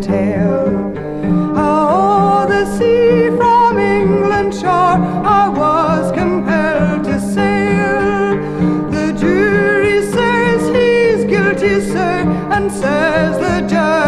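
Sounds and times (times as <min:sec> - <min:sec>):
acoustic guitar: 0:00.0 - 0:14.0
woman singing folk ballad: 0:00.0 - 0:14.0.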